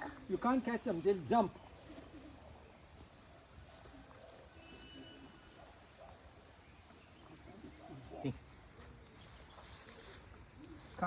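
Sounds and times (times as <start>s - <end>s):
crickets trilling: 0.0s - 11.0s
faint rustling: 0.0s - 11.0s.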